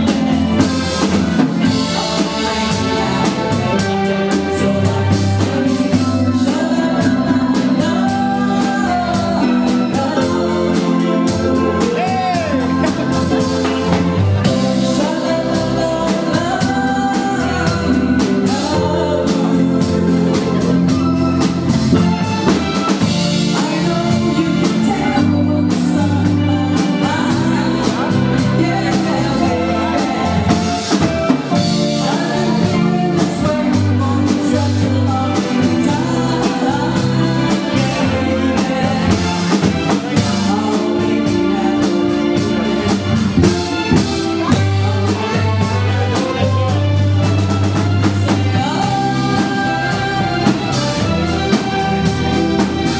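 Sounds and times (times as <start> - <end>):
drum kit beat: 0.0 - 52.9
low bass notes: 0.0 - 52.9
person singing: 0.0 - 52.9.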